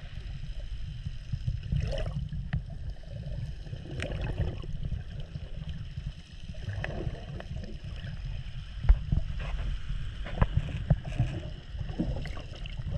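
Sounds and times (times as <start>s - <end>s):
muffled underwater water rumble: 0.0s - 12.9s.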